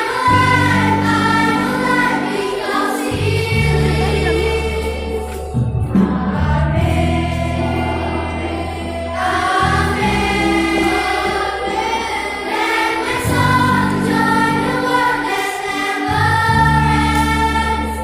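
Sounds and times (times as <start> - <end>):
children's choir singing: 0.0 - 18.0
instrumental accompaniment: 0.0 - 18.0.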